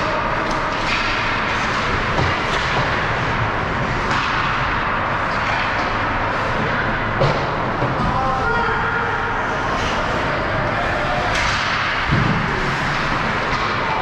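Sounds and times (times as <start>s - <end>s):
sticks and puck clacking: 0.0s - 8.7s, 9.4s - 14.0s.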